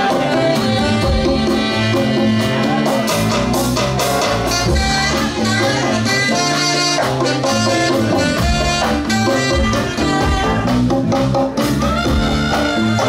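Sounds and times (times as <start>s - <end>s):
congas: 0.0s - 13.0s
drum kit: 0.0s - 13.0s
electric bass: 0.0s - 13.0s
electric guitars: 0.0s - 13.0s
keyboards: 0.0s - 13.0s.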